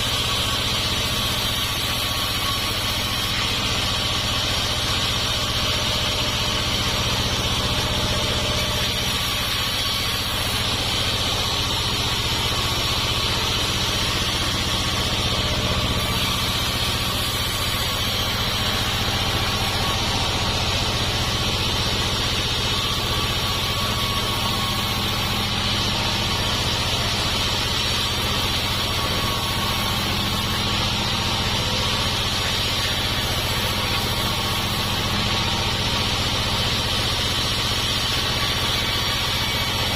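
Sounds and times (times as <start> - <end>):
sawmill machine drone: 0.0 - 39.9.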